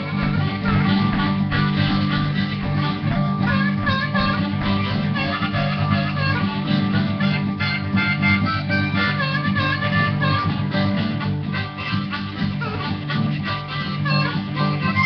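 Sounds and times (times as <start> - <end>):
acoustic guitar strumming: 0.0 - 15.0
harmonica playing: 0.0 - 15.0.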